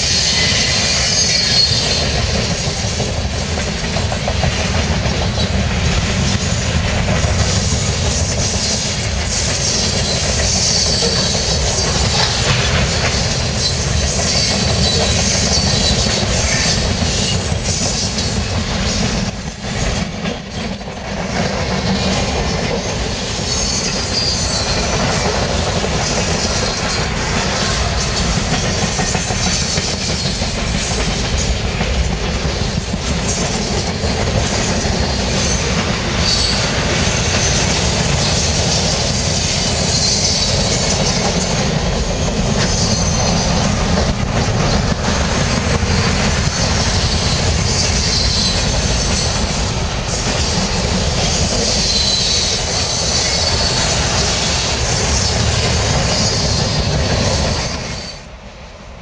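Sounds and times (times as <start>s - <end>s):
high wheel squeal: 0.0s - 2.9s, 7.4s - 19.2s, 21.7s - 30.5s, 33.3s - 58.3s
train wheels rumbling on rails: 0.0s - 59.0s.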